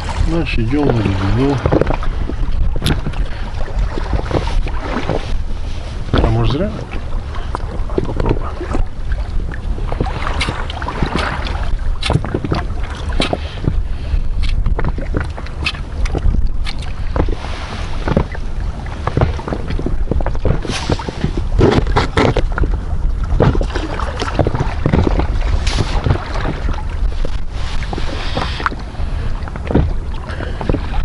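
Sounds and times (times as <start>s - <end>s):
waves slapping against boat hull: 0.0s - 31.0s
wind on microphone: 0.0s - 31.0s.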